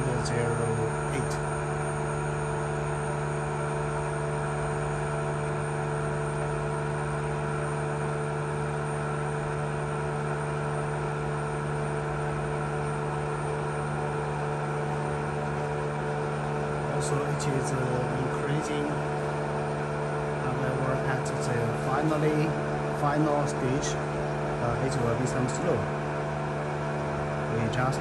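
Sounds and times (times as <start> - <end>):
vacuum pump humming: 0.0 - 28.0.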